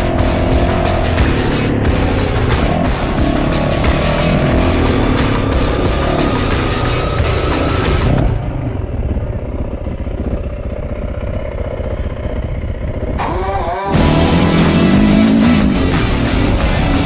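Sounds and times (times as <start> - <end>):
muffled dirt bike engine revving: 0.0 - 17.0.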